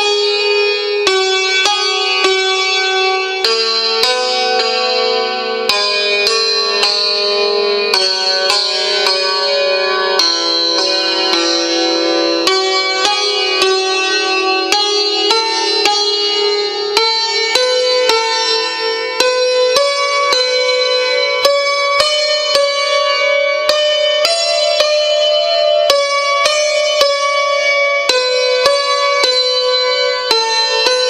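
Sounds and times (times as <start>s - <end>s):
santur playing: 0.0s - 31.0s.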